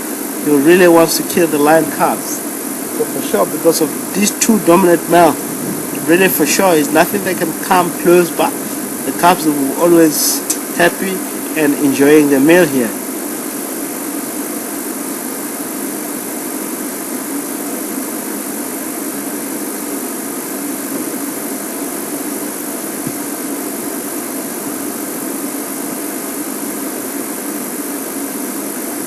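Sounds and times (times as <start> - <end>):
constant hiss: 0.0 - 29.0.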